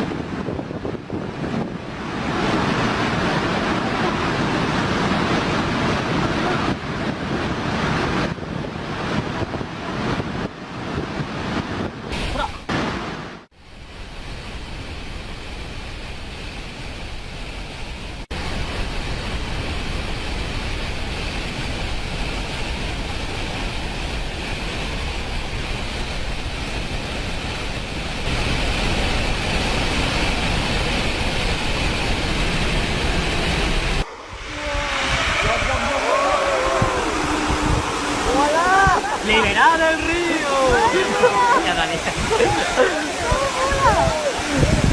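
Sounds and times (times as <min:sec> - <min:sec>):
dam water rushing: 0:00.0 - 0:10.1, 0:18.3 - 0:44.9.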